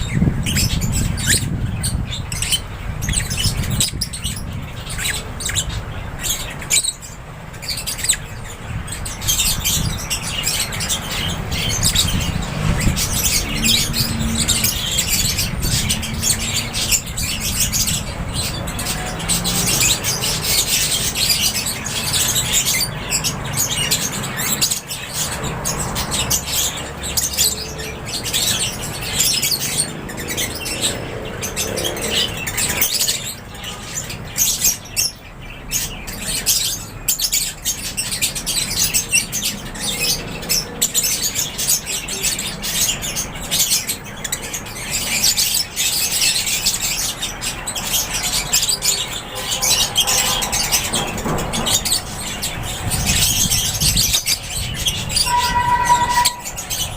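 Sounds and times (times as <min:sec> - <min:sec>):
birds chirping and squawking: 0:00.0 - 0:56.9.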